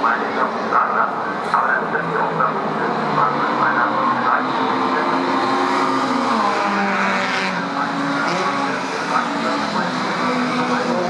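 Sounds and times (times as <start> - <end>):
race car engines revving high: 0.0 - 11.0.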